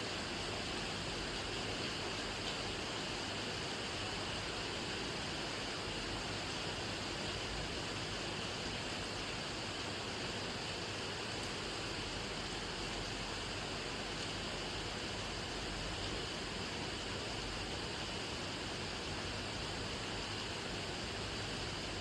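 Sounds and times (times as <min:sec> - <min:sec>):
steady rain falling: 0:00.1 - 0:22.0.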